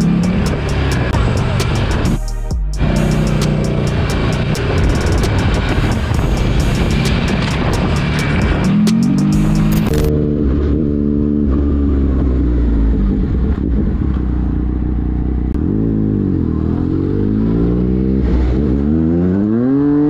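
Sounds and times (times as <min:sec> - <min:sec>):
motorcycle engine revving: 0:00.0 - 0:02.2, 0:02.8 - 0:20.0.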